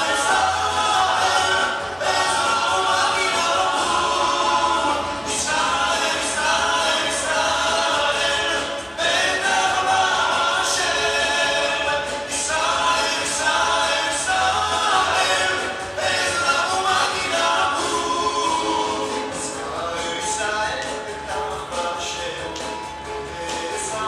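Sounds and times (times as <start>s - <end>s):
choir singing a cappella: 0.0s - 20.5s.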